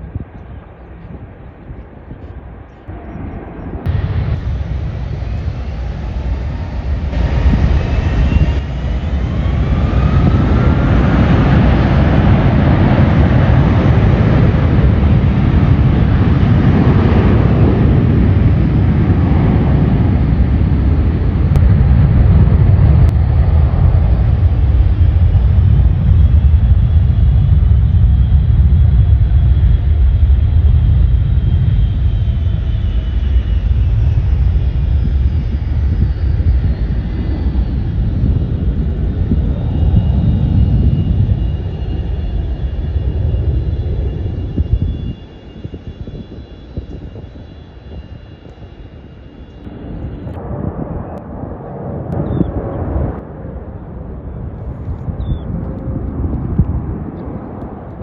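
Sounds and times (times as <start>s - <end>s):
jet engines roaring: 0.0s - 58.0s
thin engine whine: 2.8s - 51.4s.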